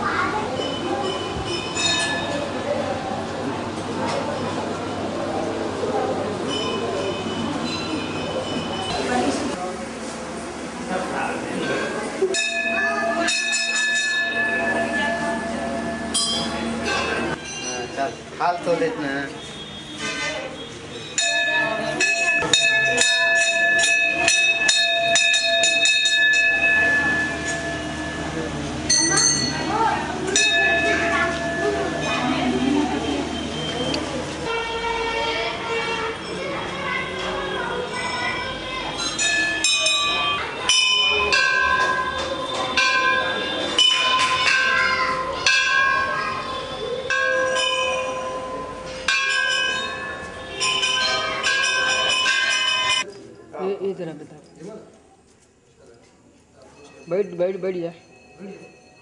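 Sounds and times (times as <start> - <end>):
temple bell ringing: 0.1 - 3.3, 6.0 - 9.3, 11.4 - 18.9, 20.9 - 53.1, 56.8 - 59.0.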